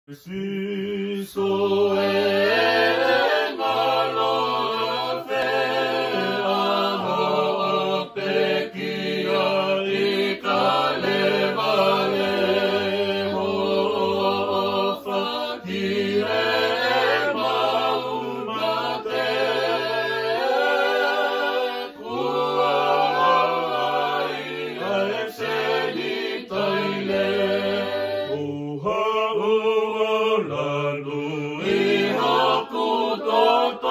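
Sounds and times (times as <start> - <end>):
choir singing a hymn: 0.1 - 33.9.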